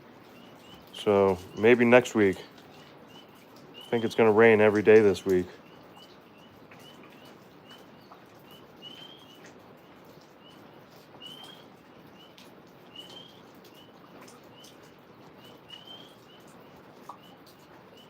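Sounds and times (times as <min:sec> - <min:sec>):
rain falling: 0:00.0 - 0:18.0
songbird chirping: 0:00.0 - 0:18.0.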